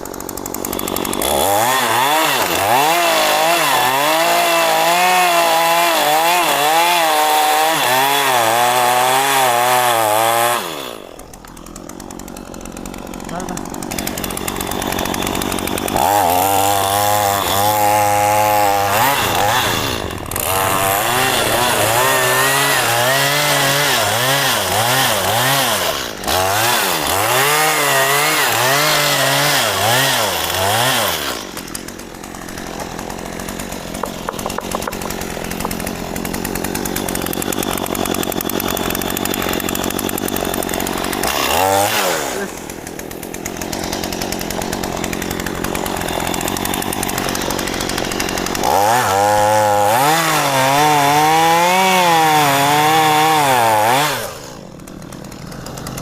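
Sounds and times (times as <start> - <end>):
chainsaw cutting into wood: 0.0 - 56.0.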